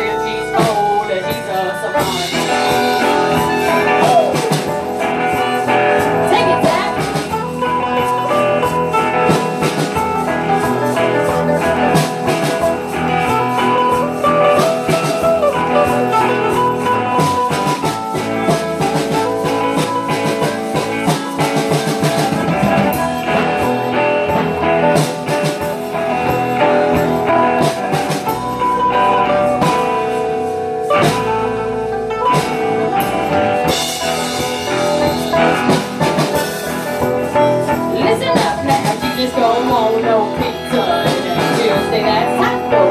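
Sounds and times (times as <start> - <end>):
live band playing instrumental: 0.0 - 42.9.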